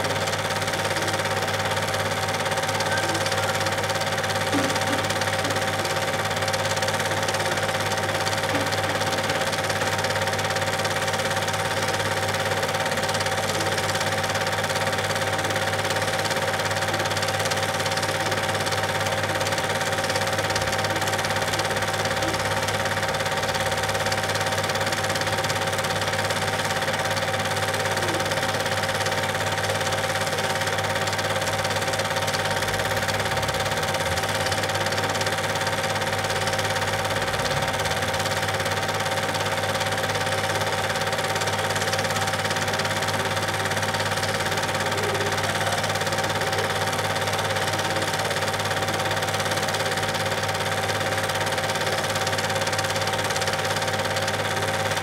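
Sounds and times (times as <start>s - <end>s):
film clattering through projector: 0.0s - 55.0s
film projector motor hum: 0.0s - 55.0s.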